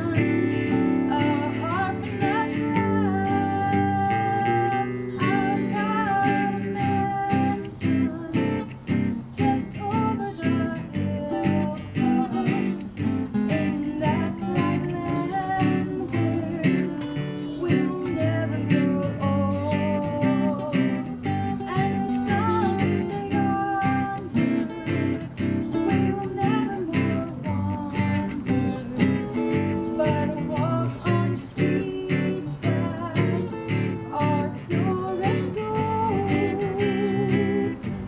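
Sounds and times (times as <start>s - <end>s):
guitars strumming and picking: 0.0s - 38.0s
woman singing: 0.0s - 38.0s.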